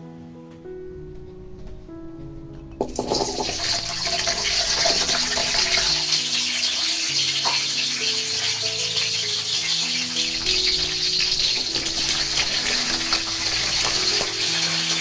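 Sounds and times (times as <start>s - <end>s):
shallots sizzling in hot oil: 2.9s - 15.0s.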